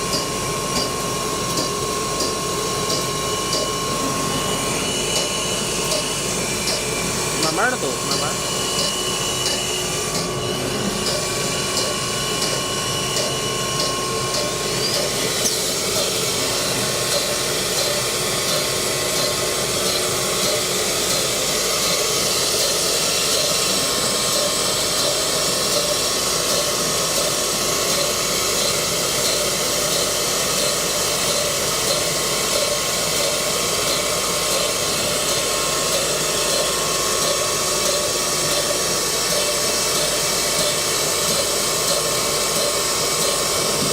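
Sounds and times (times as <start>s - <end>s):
cnc router running: 0.0s - 43.9s.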